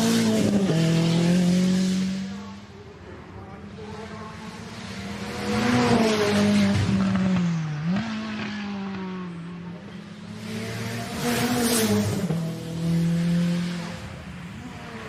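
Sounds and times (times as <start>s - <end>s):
racing car engine: 0.0s - 15.0s.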